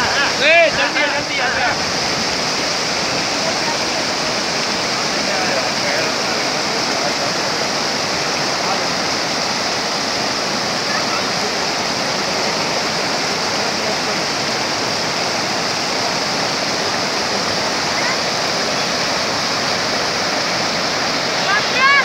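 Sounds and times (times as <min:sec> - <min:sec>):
stream rushing over rocks: 0:00.0 - 0:22.0.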